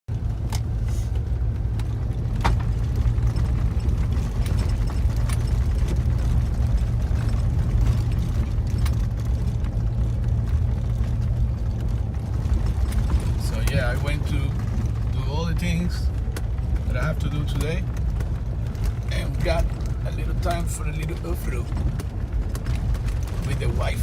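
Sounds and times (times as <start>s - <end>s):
car engine and road rumble: 0.1s - 24.0s.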